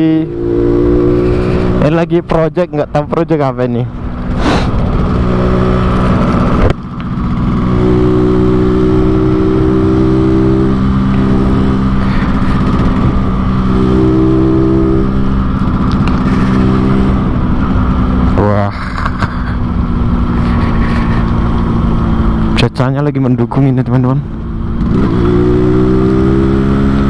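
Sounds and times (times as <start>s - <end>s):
two-stroke motorcycle running: 0.0s - 27.0s.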